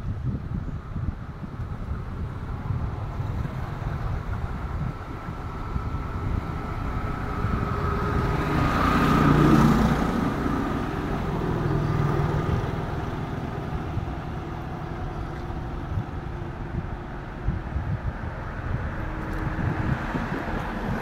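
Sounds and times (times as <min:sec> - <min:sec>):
vehicle engine passing: 0:02.4 - 0:21.0.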